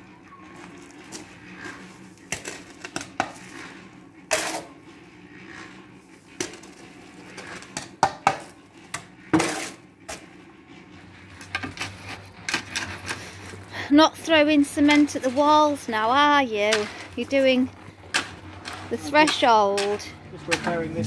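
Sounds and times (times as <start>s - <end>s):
spade scraping wet cement: 0.7s - 4.8s, 5.4s - 8.0s, 8.9s - 21.0s.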